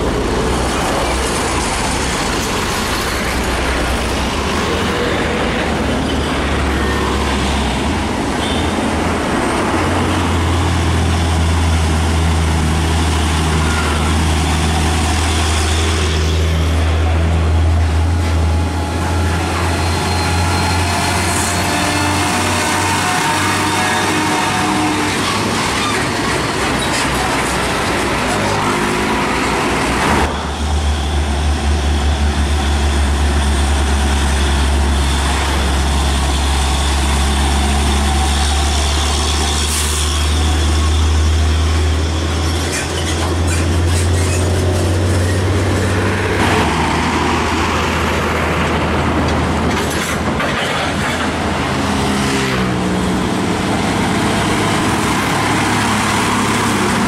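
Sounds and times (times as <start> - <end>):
diesel trucks passing: 0.0 - 57.0
road traffic noise: 0.0 - 57.0.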